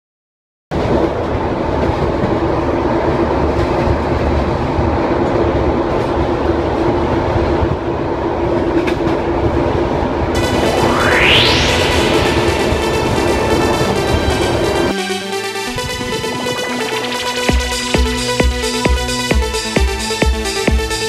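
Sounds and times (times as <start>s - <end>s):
electric train rumbling: 0.7s - 21.0s.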